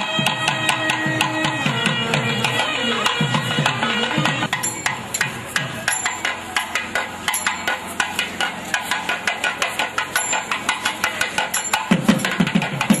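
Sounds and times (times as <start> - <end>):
deeper drum beats: 0.0 - 13.0
drums beaten with sticks: 0.0 - 13.0.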